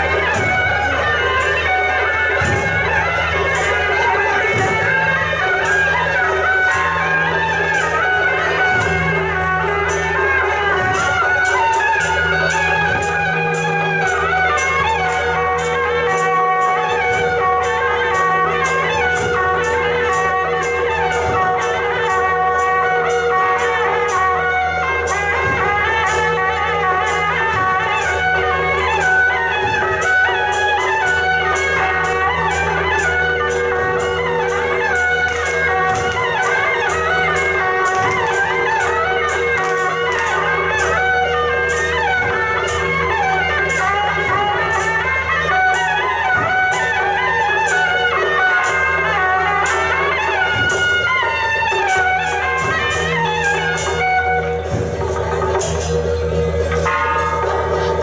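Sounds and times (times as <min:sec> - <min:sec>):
reedy wind instruments melody: 0:00.0 - 0:58.0
sharp percussion strikes: 0:00.0 - 0:58.0.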